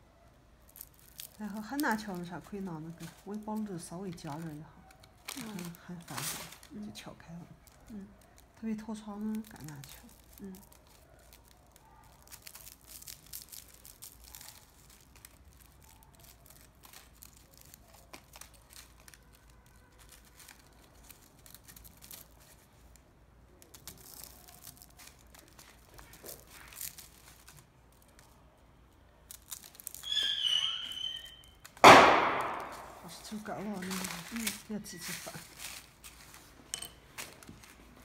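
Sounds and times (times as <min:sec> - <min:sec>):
dry tea leaves crackling: 0:00.0 - 0:38.0
paper wrapper crinkling: 0:00.0 - 0:38.0.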